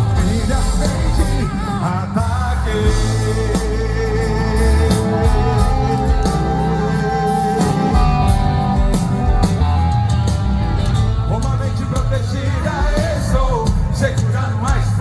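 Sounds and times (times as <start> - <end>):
bass: 0.0 - 15.0.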